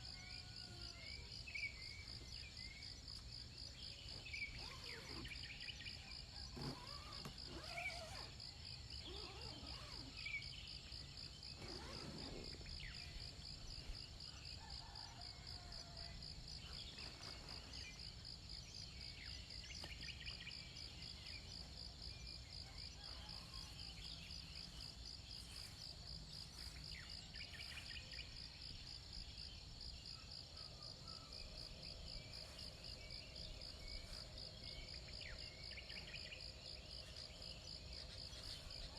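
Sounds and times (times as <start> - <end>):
crickets trilling: 3.6 - 38.9.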